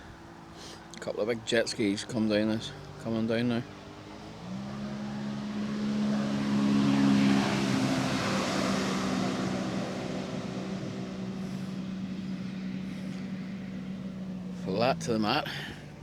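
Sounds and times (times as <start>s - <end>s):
jet ski engines droning: 0.0s - 16.0s.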